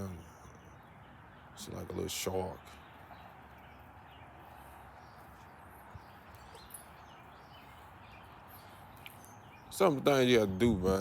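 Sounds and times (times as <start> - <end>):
faint outdoor hum: 0.0 - 11.0
small birds chirping: 0.0 - 11.0.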